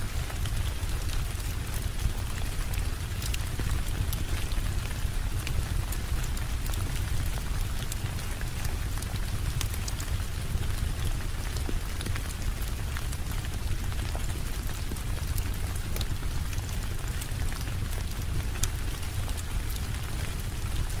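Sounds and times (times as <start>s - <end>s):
sharp ticks of raindrops: 0.0s - 21.0s
steady rainfall: 0.0s - 21.0s.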